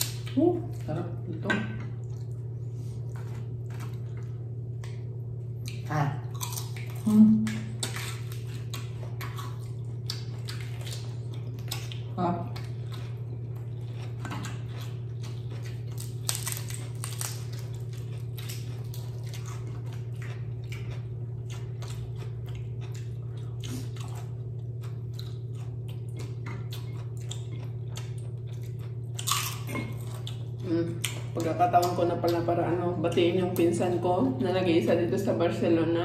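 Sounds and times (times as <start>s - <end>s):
steady low hum: 0.0s - 36.0s
chewing crispy chicken skin: 2.0s - 32.4s.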